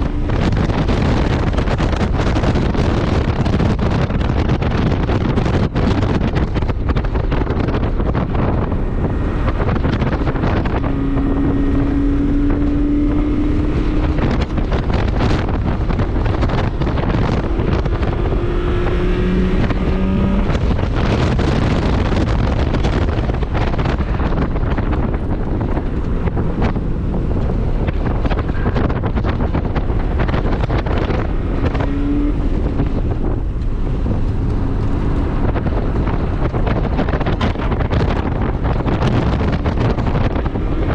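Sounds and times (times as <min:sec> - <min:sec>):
car engine accelerating: 0:00.0 - 0:40.9
wind buffeting microphone: 0:00.0 - 0:40.9.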